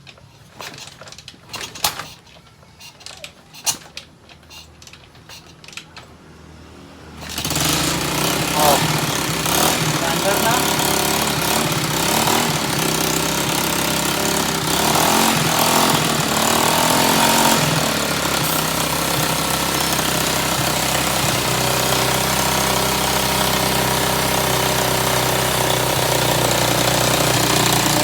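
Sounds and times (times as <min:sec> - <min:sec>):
motorbike engine and air compressor: 0:00.0 - 0:28.0.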